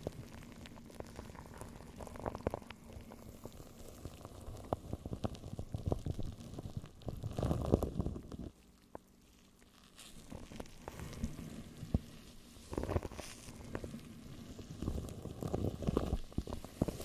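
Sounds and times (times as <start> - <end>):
close crackling and rustling: 0.0 - 17.0.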